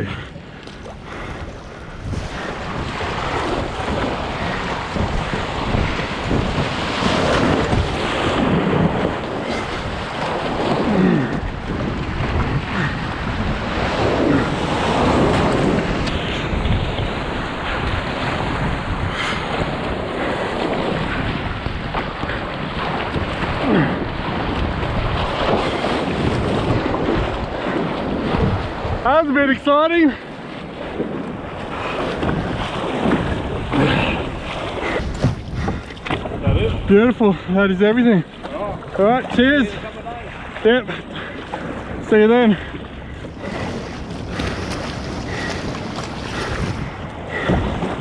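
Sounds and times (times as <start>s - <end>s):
sea rushing and splashing: 0.0s - 48.0s
wind buffeting microphone: 0.0s - 48.0s.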